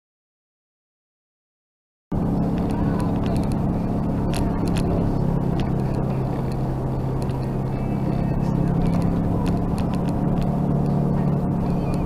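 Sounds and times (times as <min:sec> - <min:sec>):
car cabin road noise: 0:02.1 - 0:12.0.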